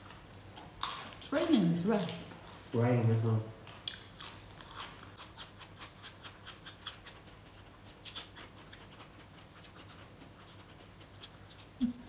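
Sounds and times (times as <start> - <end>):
chewing crunchy vegetables: 0.0 - 2.7, 3.6 - 12.0.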